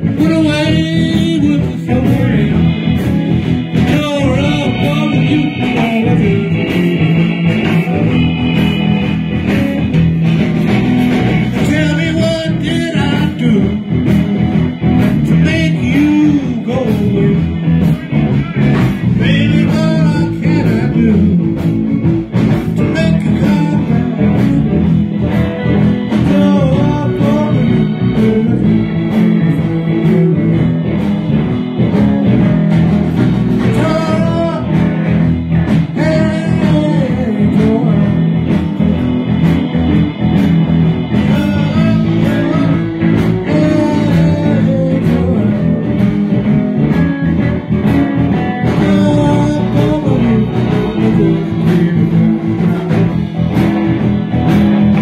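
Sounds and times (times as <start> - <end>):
blues band playing: 0.0 - 55.0.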